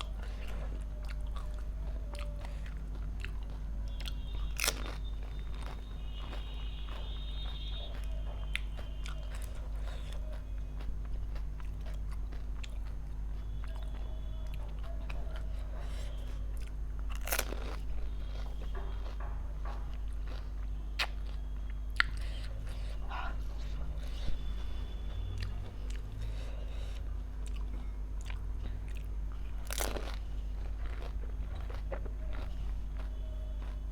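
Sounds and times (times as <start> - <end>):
crisp shells crunching when chewed: 0.0 - 24.1, 25.3 - 33.9.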